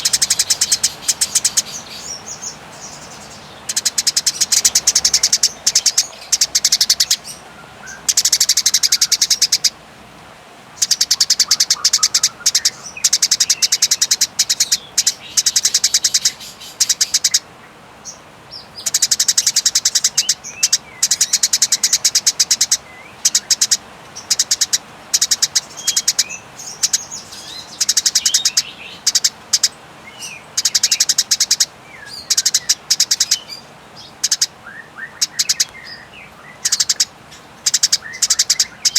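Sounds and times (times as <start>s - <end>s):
sparrows rattling chatter: 0.0s - 9.8s, 10.7s - 38.9s.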